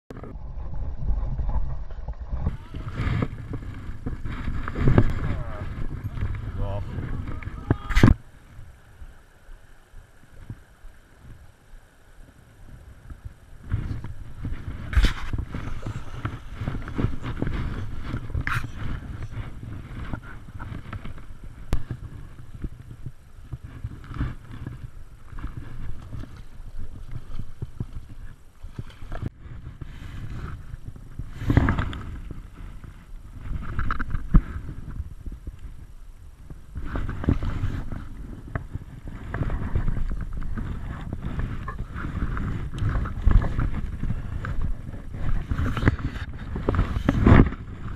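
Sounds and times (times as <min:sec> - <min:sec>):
wind rumbling on microphone: 0:00.0 - 0:47.9
stream running over rocks: 0:01.4 - 0:47.9.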